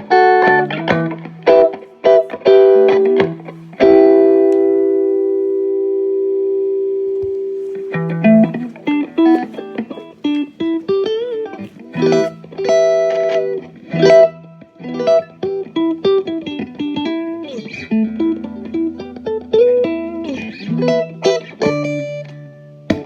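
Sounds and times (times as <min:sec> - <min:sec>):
electric guitar playing: 0:00.0 - 0:23.0.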